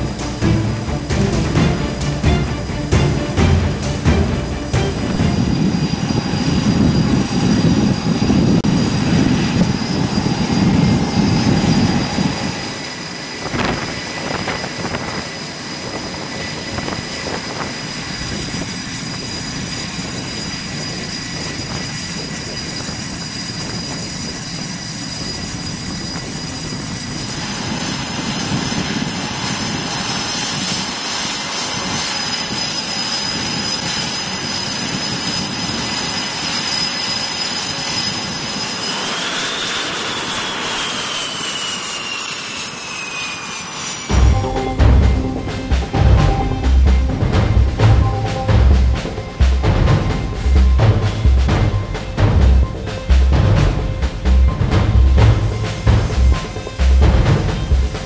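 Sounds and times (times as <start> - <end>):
jet engines with turbine whine: 0.0 - 58.0.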